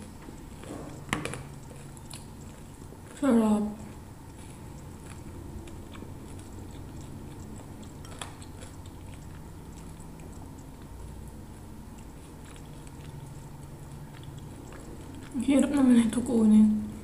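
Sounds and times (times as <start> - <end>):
person chewing fried food: 0.0 - 16.1.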